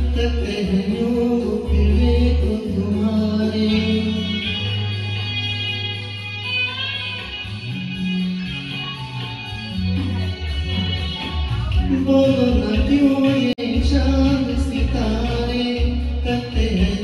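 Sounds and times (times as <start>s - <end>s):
bass line: 0.0s - 17.0s
guitar: 0.0s - 17.0s
person singing: 0.0s - 17.0s.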